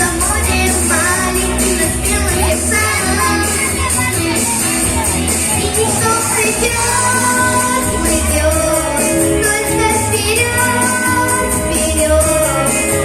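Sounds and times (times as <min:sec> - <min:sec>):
girl singing: 0:00.0 - 0:13.0
instrumental accompaniment with beat: 0:00.0 - 0:13.0.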